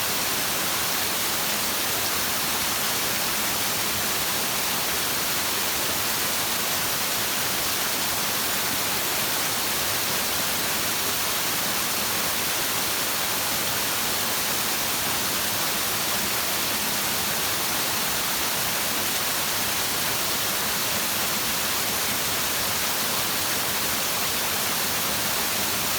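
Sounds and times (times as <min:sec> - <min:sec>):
stream flowing: 0:00.0 - 0:25.9.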